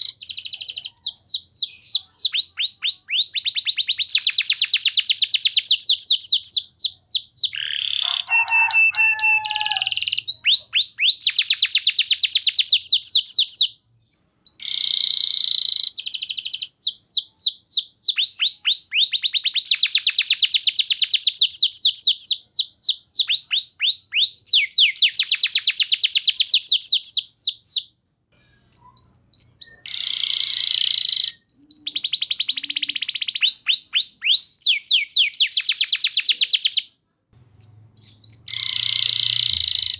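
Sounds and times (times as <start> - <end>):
canary singing trills: 0.0 - 13.8, 14.4 - 27.9, 28.7 - 36.9, 37.5 - 39.9.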